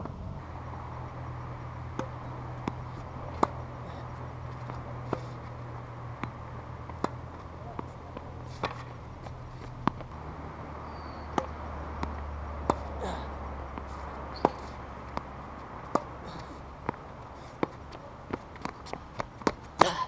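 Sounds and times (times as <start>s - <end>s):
tennis ball hitting rackets: 0.6s - 20.0s.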